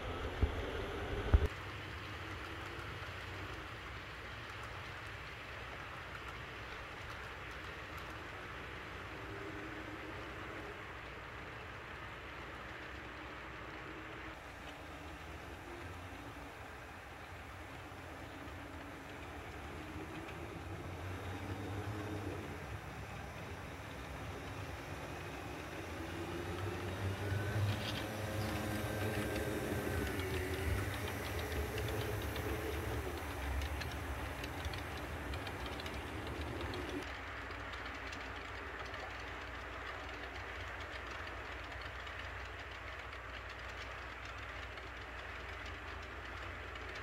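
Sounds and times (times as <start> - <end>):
model train rumbling past: 0.0 - 47.0
wheels clicking over track: 0.0 - 47.0.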